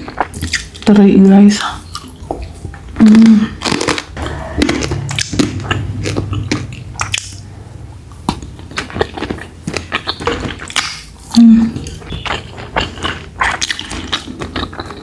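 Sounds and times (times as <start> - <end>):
person chewing crunchy food: 0.0 - 0.9, 1.6 - 15.0.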